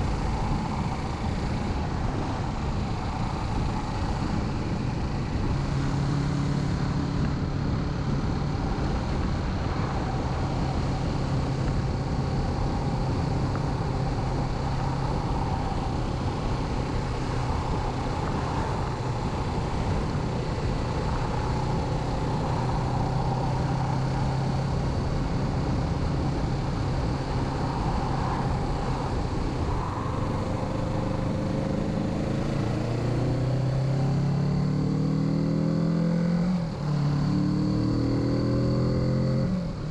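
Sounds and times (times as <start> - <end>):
road noise: 0.0 - 39.9
wind noise: 0.0 - 39.9.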